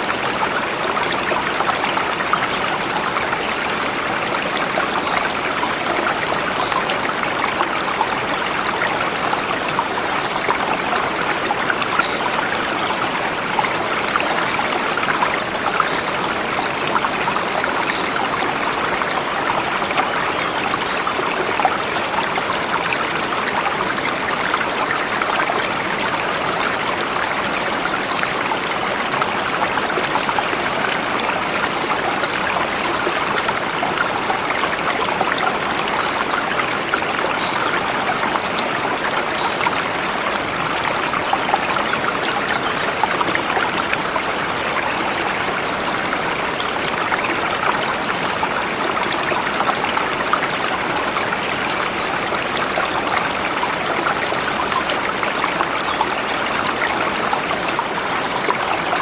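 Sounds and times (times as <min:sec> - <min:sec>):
river flowing over rocks: 0:00.0 - 0:59.0.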